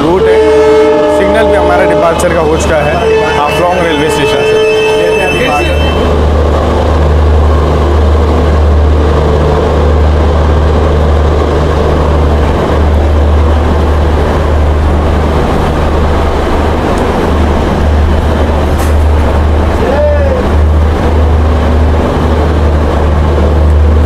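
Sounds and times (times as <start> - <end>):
diesel train engine droning: 0.0 - 24.0.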